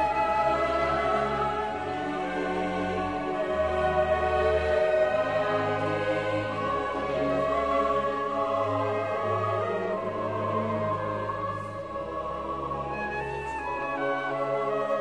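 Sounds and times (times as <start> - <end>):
choir with orchestra: 0.0 - 15.0.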